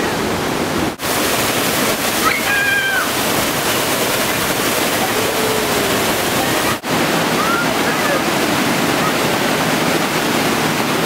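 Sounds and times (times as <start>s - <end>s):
waterfall pouring into pool: 0.9s - 11.0s.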